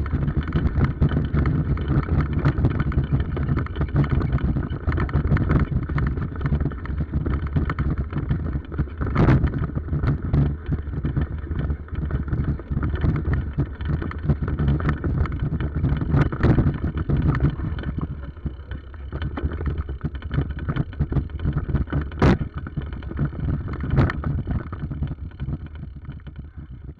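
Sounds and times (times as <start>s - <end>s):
bicycle rumble: 0.0s - 26.9s
sharp knocks and rattles: 0.0s - 26.9s
wind on microphone: 0.0s - 26.9s.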